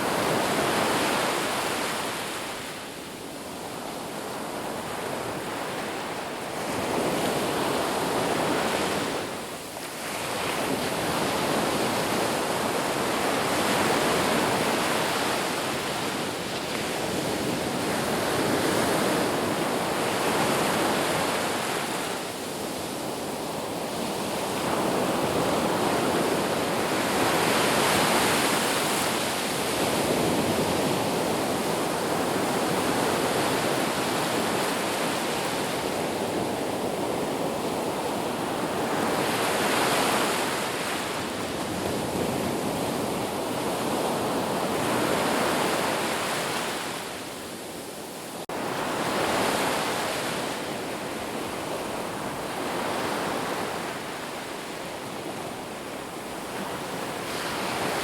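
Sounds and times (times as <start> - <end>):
sea waves breaking: 4.0 - 58.0.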